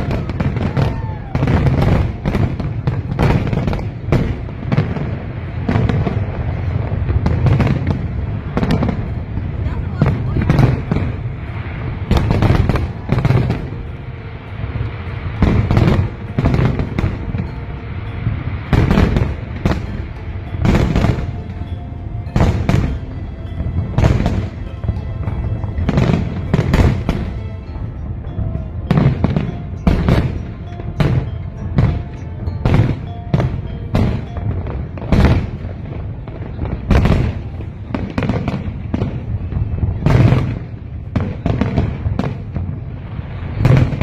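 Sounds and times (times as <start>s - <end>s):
fireworks bangs: 0.0s - 44.0s
music playing: 0.0s - 44.0s.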